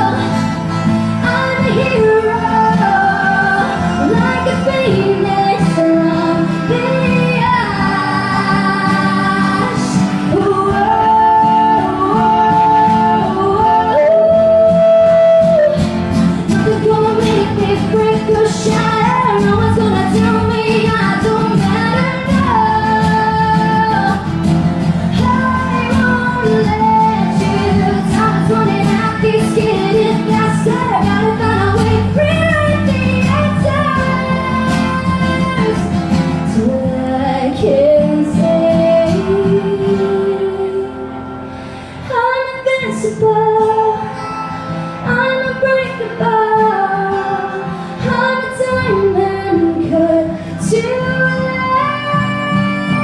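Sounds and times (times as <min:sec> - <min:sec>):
woman singing: 0:00.0 - 0:41.3, 0:42.0 - 0:44.3, 0:45.0 - 0:53.0
electric guitar: 0:00.0 - 0:53.0.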